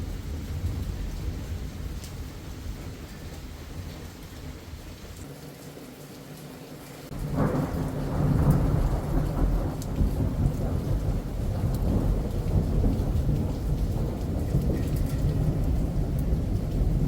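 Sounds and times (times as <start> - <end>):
loud thunder clap and rumble: 0.0 - 4.9, 7.1 - 17.0
rain falling: 0.0 - 17.0.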